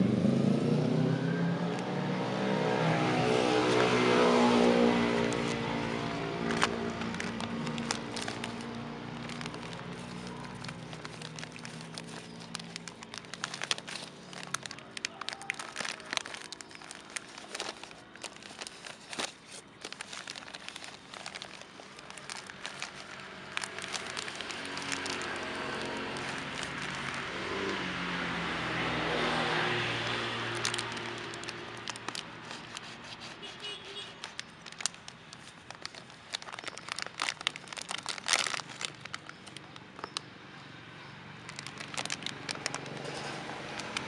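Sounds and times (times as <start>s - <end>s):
plastic bag crinkling: 3.0s - 40.3s, 41.4s - 44.0s.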